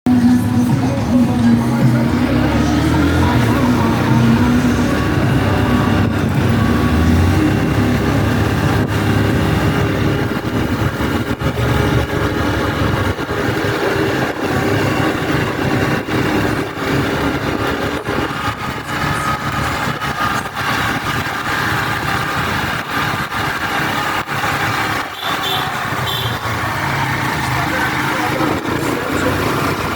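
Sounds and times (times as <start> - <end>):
traffic: 0.0 - 29.9
motorcycle engine running: 0.1 - 29.9
wind noise: 1.9 - 29.9.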